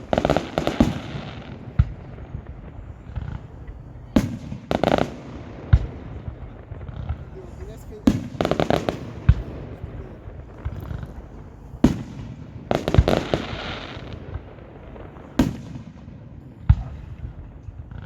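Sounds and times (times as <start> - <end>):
fireworks bangs: 0.0 - 18.0
fireworks popping: 0.0 - 18.0.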